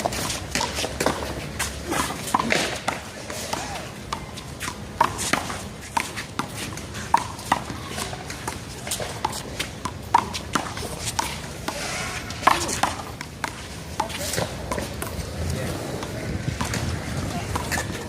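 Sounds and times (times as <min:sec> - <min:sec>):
shoes scuffing on court: 0:00.0 - 0:18.0.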